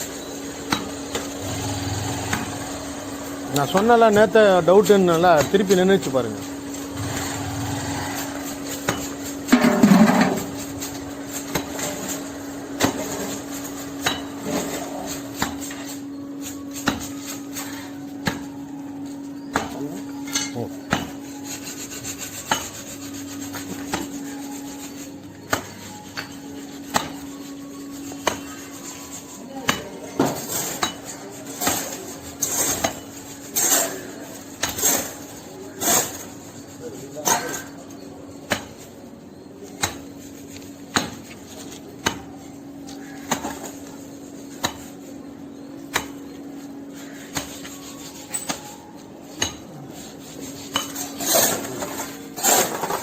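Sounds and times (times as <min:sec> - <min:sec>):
hand tools scraping masonry: 0:00.0 - 0:53.0.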